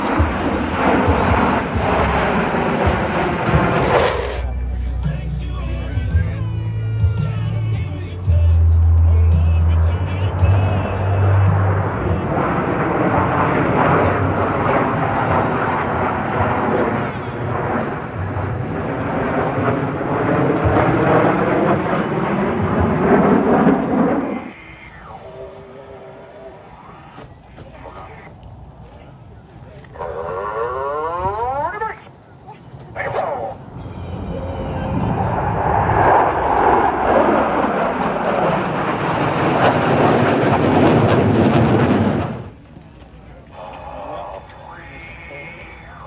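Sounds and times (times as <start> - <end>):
aircraft engine roar: 0.0 - 46.0.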